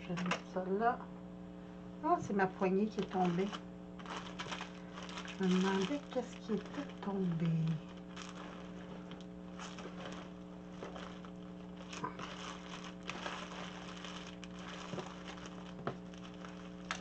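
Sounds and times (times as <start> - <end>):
steady background hum: 0.0 - 17.0
plastic boxes rustling and clicking: 3.0 - 17.0.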